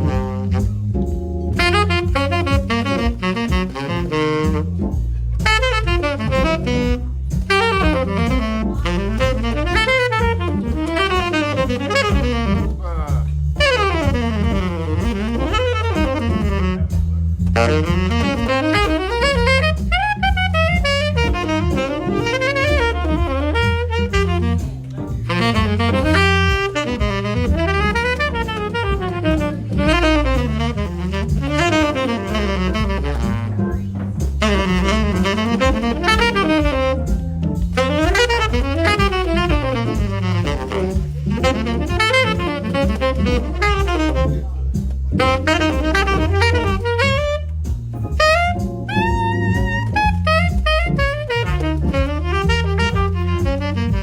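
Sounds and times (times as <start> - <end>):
low accompaniment: 0.0 - 54.0
low bass line: 0.0 - 54.0
saxophone jazz solo: 0.0 - 54.0.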